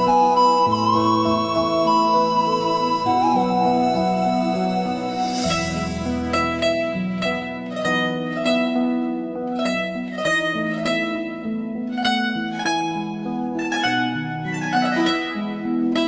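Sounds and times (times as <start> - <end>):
plucked strings melody: 0.0 - 16.0.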